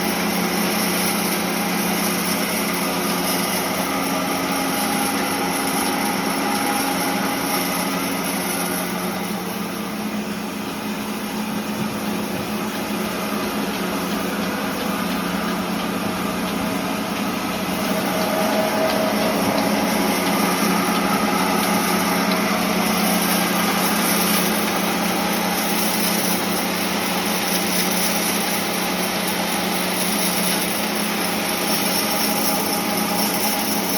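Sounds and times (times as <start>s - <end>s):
sawmill machinery running: 0.0s - 33.9s.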